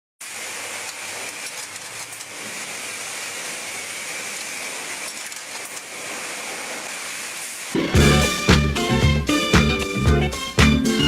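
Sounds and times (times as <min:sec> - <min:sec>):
car wash hissing: 0:00.2 - 0:11.0.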